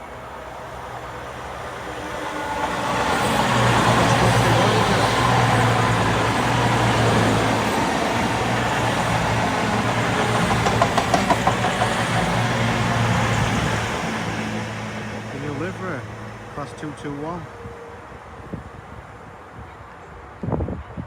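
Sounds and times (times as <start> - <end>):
train diesel engines humming: 0.0 - 20.4.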